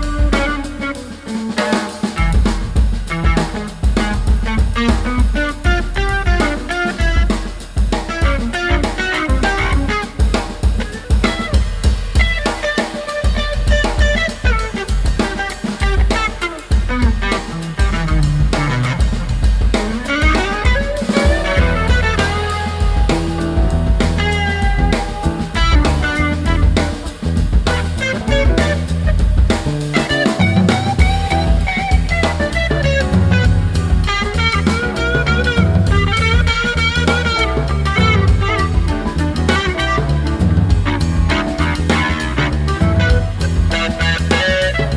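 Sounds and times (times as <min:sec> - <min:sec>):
music with drum beat and plucked notes: 0:00.0 - 0:44.9.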